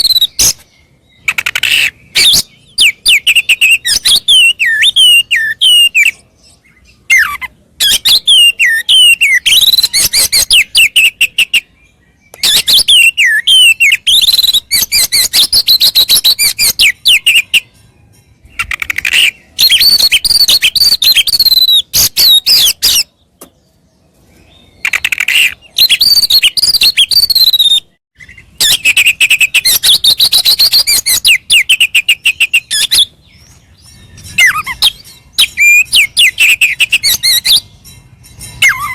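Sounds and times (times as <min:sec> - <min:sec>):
songbird singing whistles and trills: 0:00.0 - 0:38.9.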